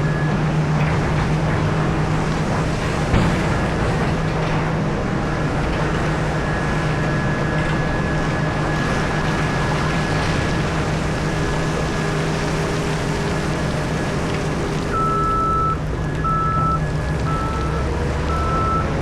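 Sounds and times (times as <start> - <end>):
diesel machinery engine drone: 0.0 - 19.0.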